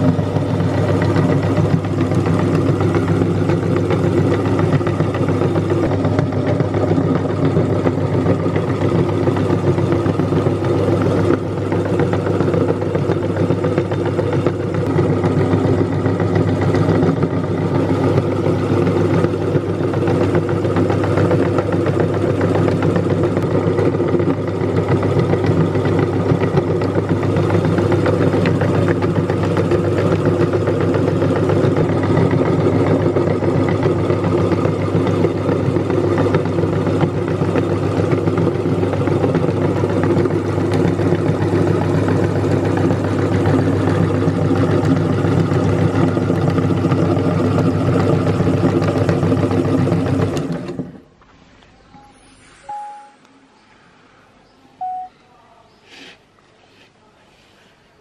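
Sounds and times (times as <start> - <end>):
meat grinder running: 0.0 - 51.1.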